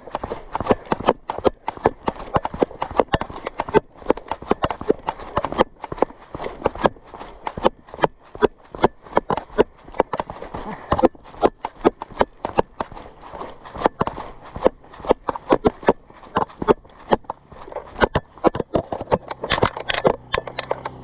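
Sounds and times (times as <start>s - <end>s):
fast footsteps on forest floor: 0.0s - 21.0s.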